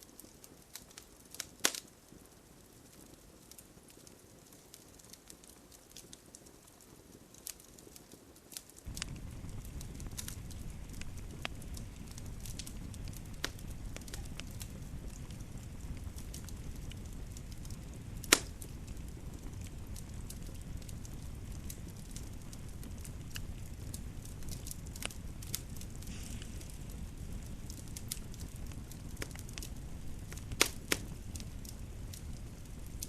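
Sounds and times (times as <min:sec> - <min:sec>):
fire pops and snaps: 0:00.0 - 0:33.0
wood fire crackling: 0:00.0 - 0:33.0.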